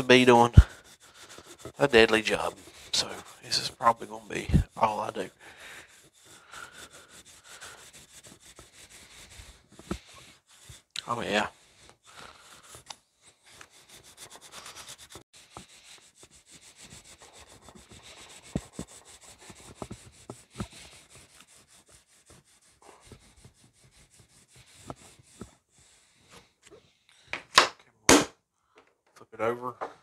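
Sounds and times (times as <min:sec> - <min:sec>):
sandpaper rubbing on steel blade: 0:00.0 - 0:26.6.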